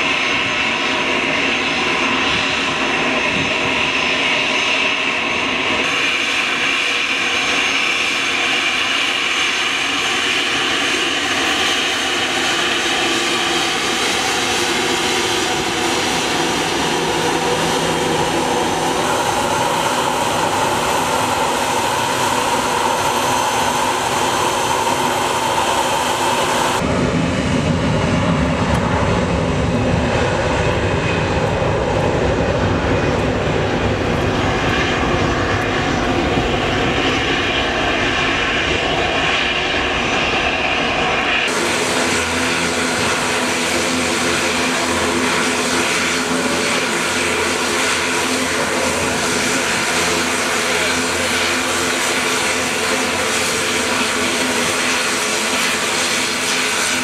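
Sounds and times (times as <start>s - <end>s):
jet airliner deep rumble: 0.0s - 57.0s
jet engines whining: 0.0s - 57.0s.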